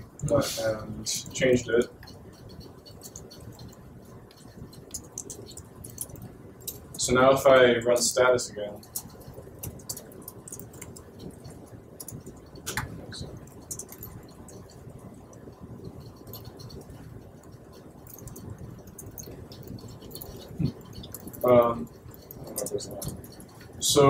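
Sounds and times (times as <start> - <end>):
laptop keyboard typing: 0.0 - 24.0
low room noise: 0.0 - 24.0.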